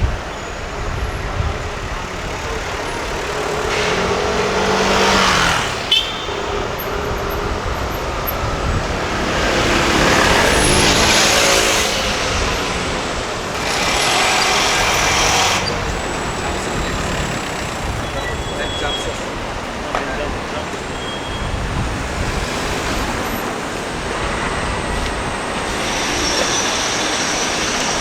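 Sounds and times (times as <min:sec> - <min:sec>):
traffic rumble: 0:00.0 - 0:28.0
vehicles passing by: 0:00.0 - 0:28.0.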